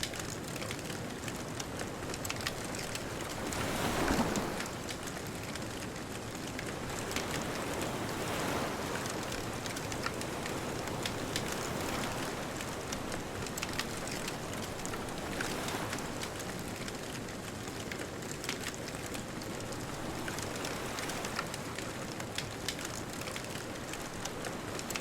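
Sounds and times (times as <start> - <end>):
bonfire crackling and popping: 0.0 - 25.0
distant ocean waves: 0.0 - 25.0.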